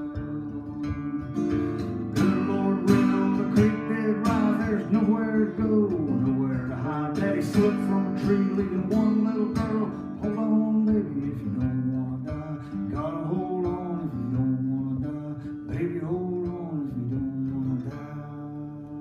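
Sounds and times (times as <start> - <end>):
acoustic guitar playing folk song: 0.0 - 19.0.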